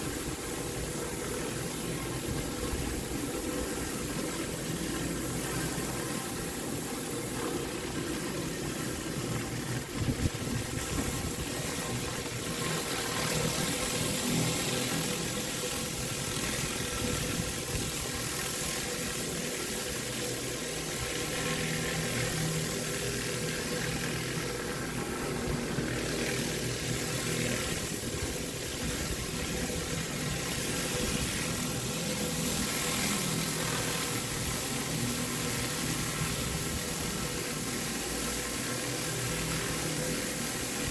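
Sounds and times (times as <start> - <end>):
high-pressure water hissing on concrete: 0.0 - 40.9
pressure washer engine running: 0.0 - 40.9.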